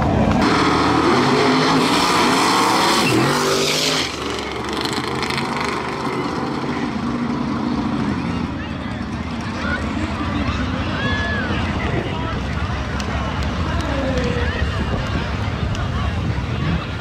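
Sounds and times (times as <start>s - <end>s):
drag car engines at full throttle: 0.0s - 17.0s.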